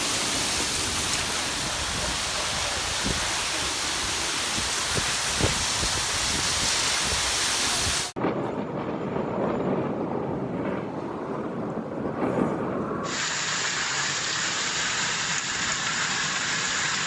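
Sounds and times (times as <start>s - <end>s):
torrential rain: 0.0s - 17.0s.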